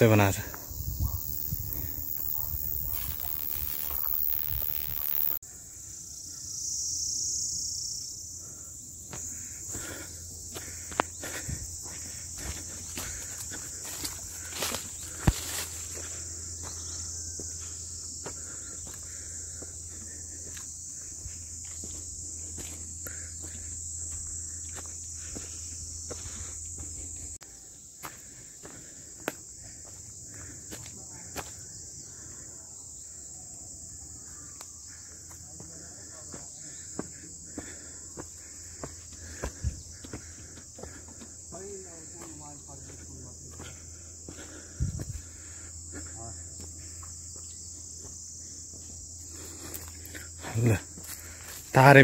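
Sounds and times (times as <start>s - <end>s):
high-pitched insect chorus: 0.0s - 52.0s
footsteps on rough trail: 0.2s - 5.2s, 9.0s - 32.1s, 35.0s - 52.0s.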